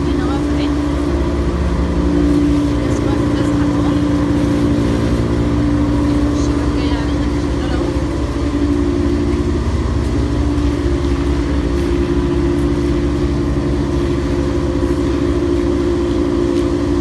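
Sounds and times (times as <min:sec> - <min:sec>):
water pump engine humming: 0:00.0 - 0:17.0.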